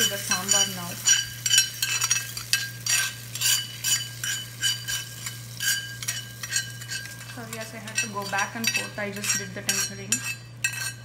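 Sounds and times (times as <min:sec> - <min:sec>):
spoon clinking on metal pan: 0:00.0 - 0:11.0
steady low hum: 0:00.0 - 0:11.0.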